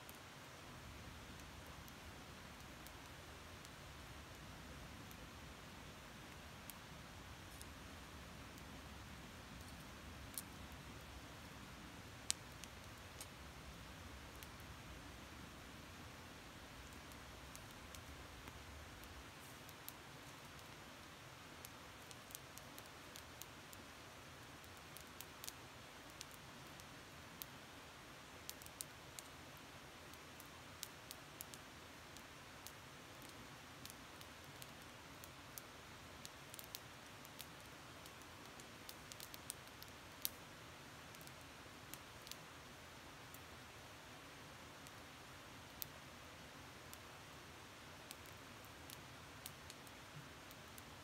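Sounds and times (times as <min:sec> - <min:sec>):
background hiss: 0:00.0 - 0:51.0
campfire crackling: 0:00.0 - 0:51.0.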